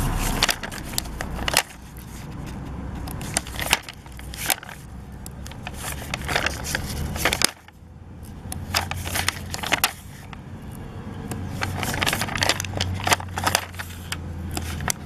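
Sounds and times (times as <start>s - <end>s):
plastic sheet crinkling: 0.0s - 2.6s, 3.2s - 7.8s, 8.6s - 10.4s, 11.5s - 15.0s
stickers peeling clicks: 0.2s - 15.0s.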